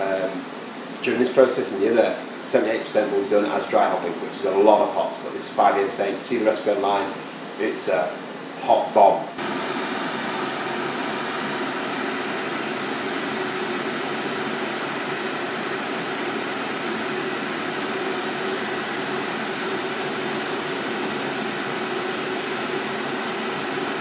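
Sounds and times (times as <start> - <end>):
pot boiling with rushing hiss: 0.0 - 24.0.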